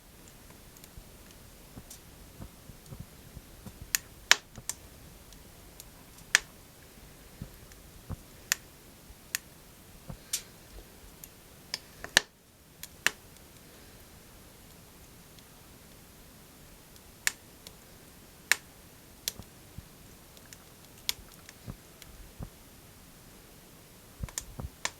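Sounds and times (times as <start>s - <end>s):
firewood crackling and popping: 0.0s - 24.9s.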